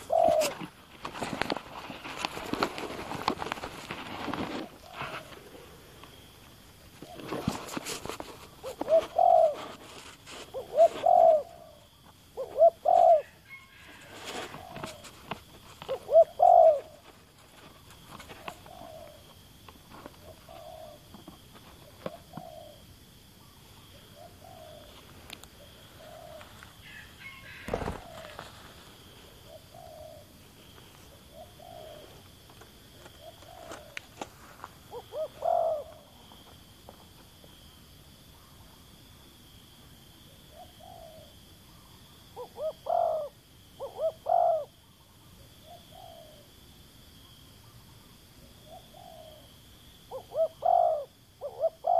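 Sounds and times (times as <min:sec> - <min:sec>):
doves cooing: 0:00.0 - 0:06.3, 0:06.9 - 0:34.2, 0:34.8 - 0:36.5, 0:40.3 - 0:46.6, 0:47.6 - 0:51.9.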